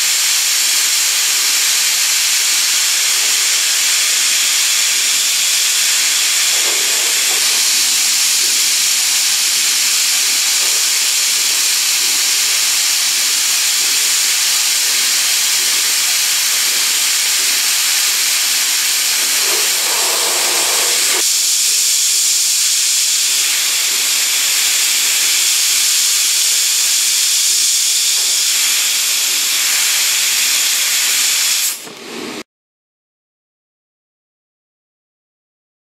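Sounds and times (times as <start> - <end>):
coolant spraying hiss: 0.0 - 32.4.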